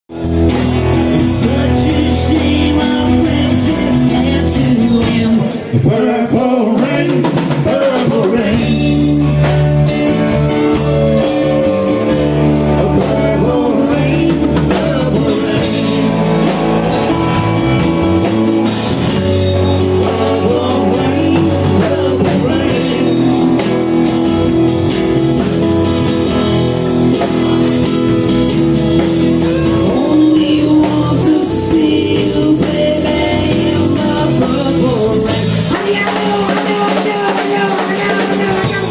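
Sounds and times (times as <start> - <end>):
live rock blues band: 0.1 - 38.9.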